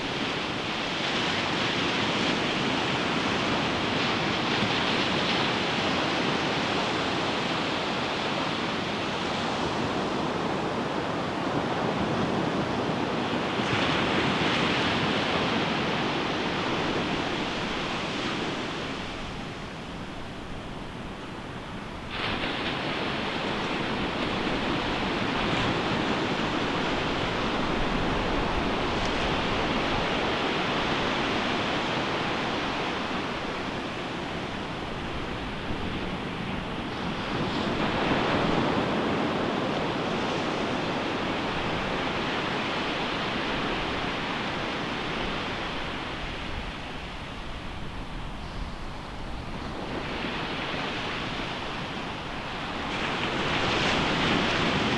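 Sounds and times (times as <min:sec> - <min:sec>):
ocean waves crashing on beach: 0:00.0 - 0:54.9.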